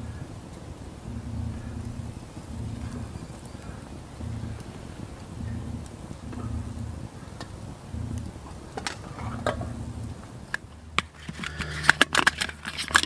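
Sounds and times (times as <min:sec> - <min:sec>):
low uneven rumble: 0:00.0 - 0:13.0.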